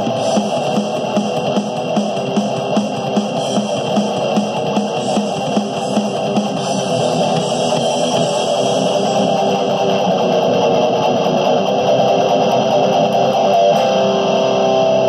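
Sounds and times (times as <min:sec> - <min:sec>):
electric guitar metal riffs: 0:00.0 - 0:15.0.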